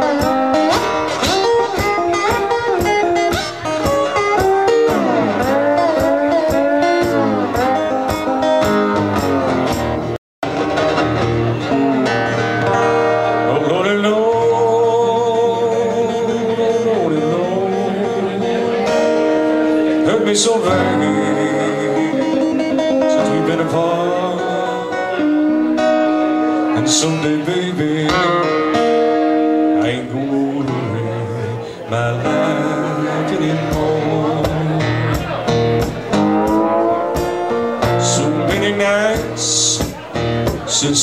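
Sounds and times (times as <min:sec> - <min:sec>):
acoustic slide guitar blues: 0:00.0 - 0:41.0.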